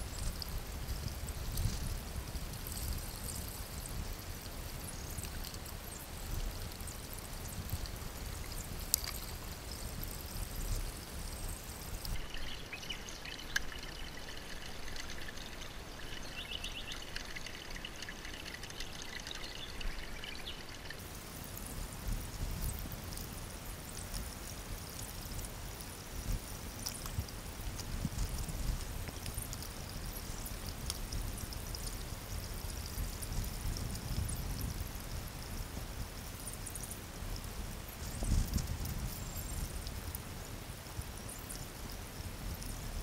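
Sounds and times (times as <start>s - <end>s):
creek water trickling: 0.0s - 43.0s.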